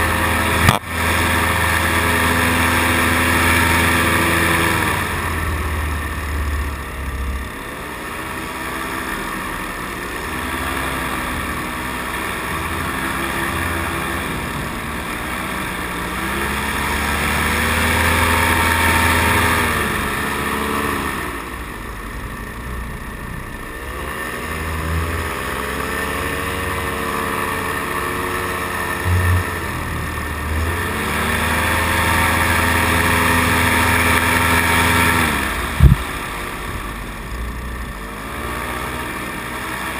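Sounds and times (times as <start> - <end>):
paramotor engine revving: 0.0 - 39.9.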